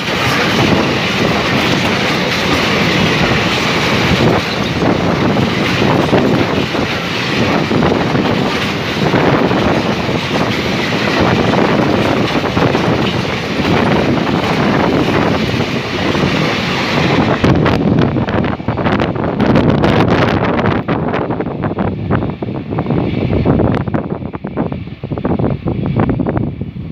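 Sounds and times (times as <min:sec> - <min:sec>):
freight train rattling past: 0:00.0 - 0:26.9
wind buffeting microphone: 0:00.0 - 0:26.9.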